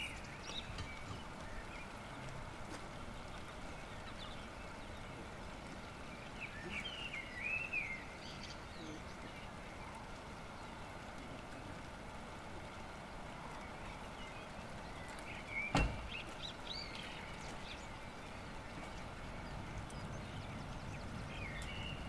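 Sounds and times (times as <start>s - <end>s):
songbird chirping: 0.0s - 11.8s, 13.5s - 22.0s
faint outdoor background noise: 0.0s - 22.0s.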